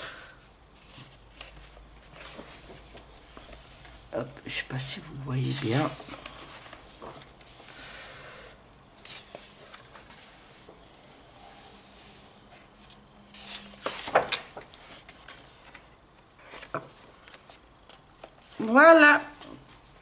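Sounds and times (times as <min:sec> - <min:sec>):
paper rustling: 0:00.8 - 0:04.2, 0:05.3 - 0:08.0, 0:09.0 - 0:19.7.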